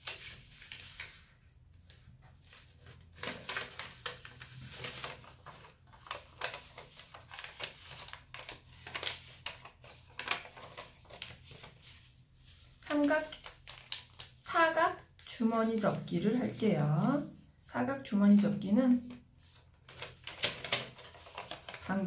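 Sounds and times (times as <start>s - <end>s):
paper rustling and crackling: 0.0s - 14.5s, 18.4s - 22.0s.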